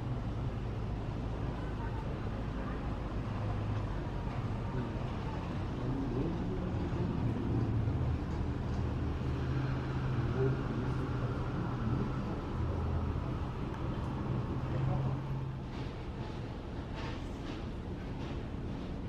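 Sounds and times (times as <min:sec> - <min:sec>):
faint voices: 0:00.3 - 0:16.4.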